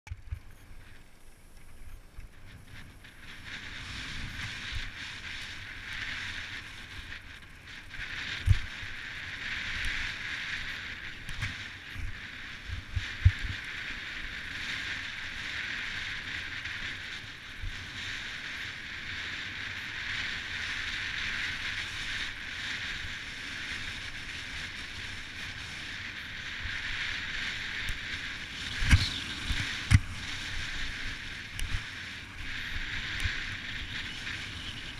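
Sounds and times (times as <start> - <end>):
bike tyres hissing on dirt: 0.4 - 34.9.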